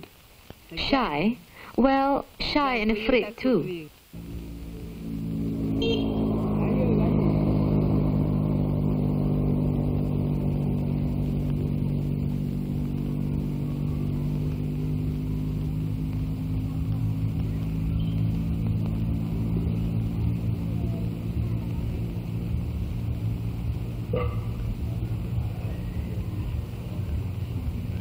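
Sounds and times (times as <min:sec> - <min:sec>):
steady engine drone: 0:04.2 - 0:28.0.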